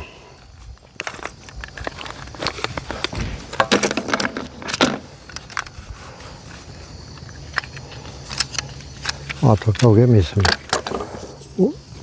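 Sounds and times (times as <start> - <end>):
utensils clattering and clinking: 1.0 - 11.6.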